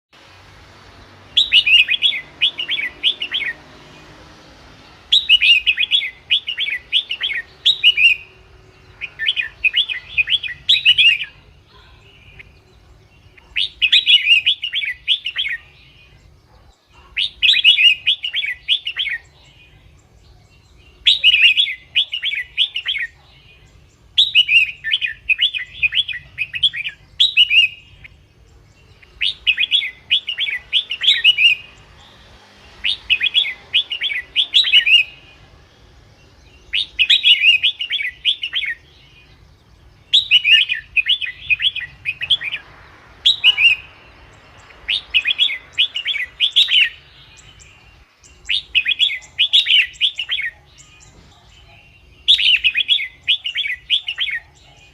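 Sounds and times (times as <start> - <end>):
bird singing warbling phrases: 0.2 - 54.9.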